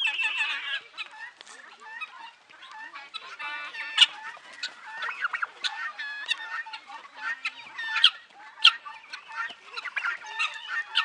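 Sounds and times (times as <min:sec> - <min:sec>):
guineafowl calling: 0:00.0 - 0:11.0.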